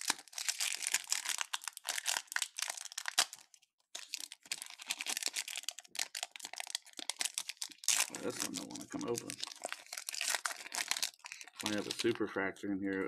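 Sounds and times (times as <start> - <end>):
foil wrapper crinkling and tearing: 0.0 - 12.2.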